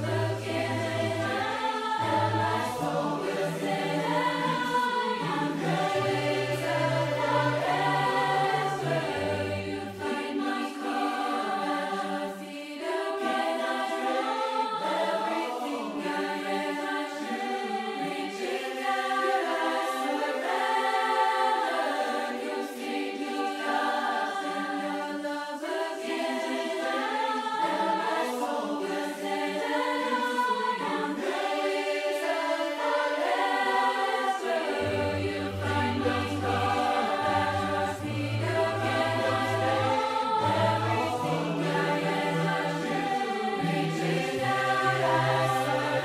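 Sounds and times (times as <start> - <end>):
congregation singing a hymn: 0.0 - 46.0.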